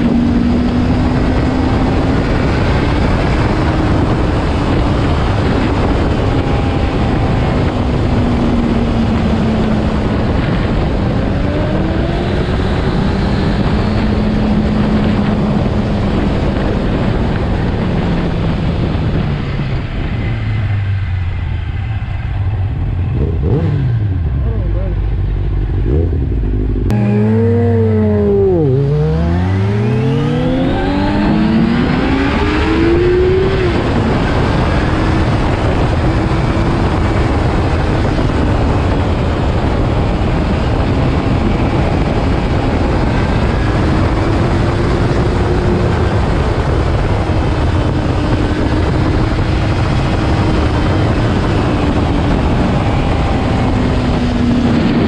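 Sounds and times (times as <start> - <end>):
motorcycle engines accelerating: 0.0 - 55.0
wind rush on microphone: 0.0 - 55.0.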